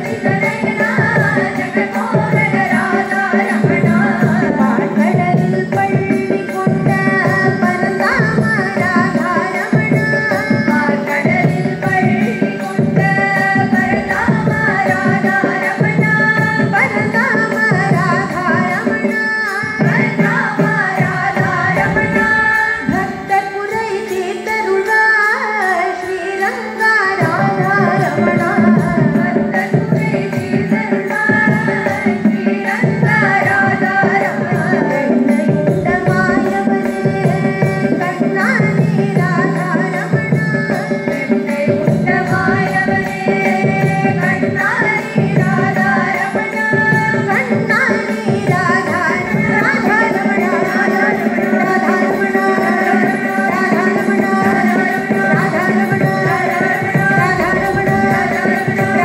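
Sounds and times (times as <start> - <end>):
devotional singing: 0.0 - 59.0
hand drum: 0.0 - 59.0.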